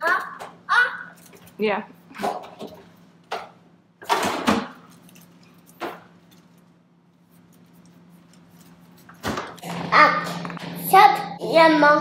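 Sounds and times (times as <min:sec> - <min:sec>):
faint refrigerator hum: 0:00.0 - 0:12.0.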